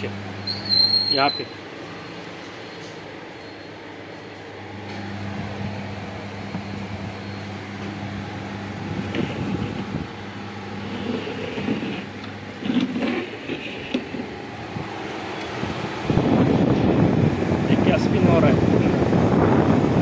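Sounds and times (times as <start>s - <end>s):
air cooler humming: 0.0s - 20.0s.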